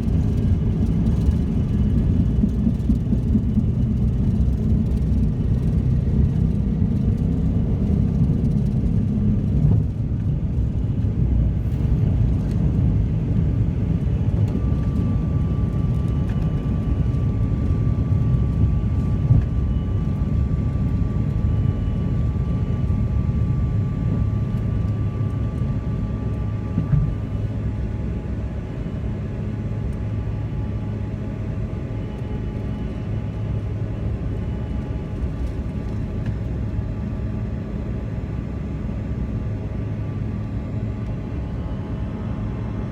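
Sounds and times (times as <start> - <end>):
airliner engines and airflow rumble: 0.0 - 42.9.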